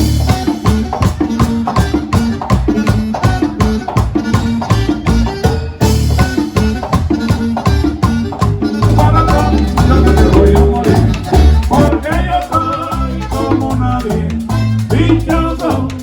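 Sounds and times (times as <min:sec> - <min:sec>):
latin dance band instrumental: 0:00.0 - 0:16.0.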